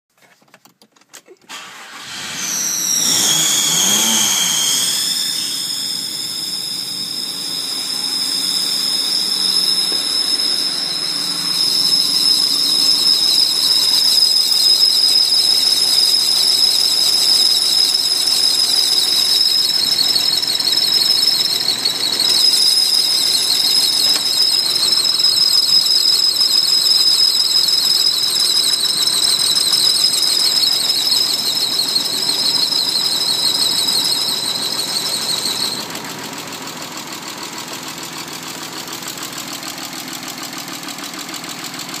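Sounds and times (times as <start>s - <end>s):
high-pitched squeal: 1.5s - 38.3s
car engine idling: 3.4s - 42.0s.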